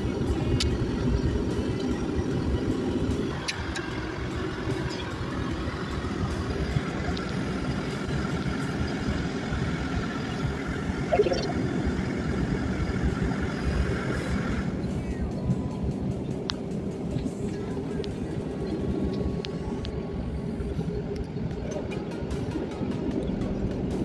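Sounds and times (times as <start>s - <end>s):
airliner cabin rumble: 0.0s - 24.0s
faint steady engine whine: 0.0s - 24.0s.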